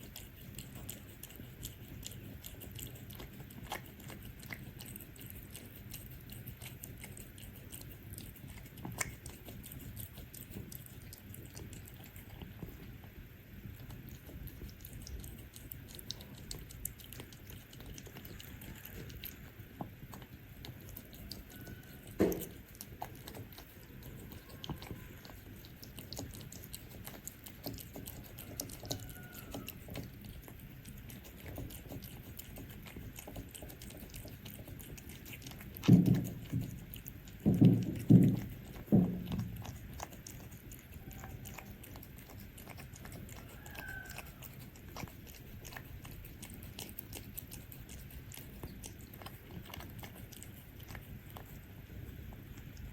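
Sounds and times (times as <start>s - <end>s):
cats chewing and crunching: 0.0s - 52.9s.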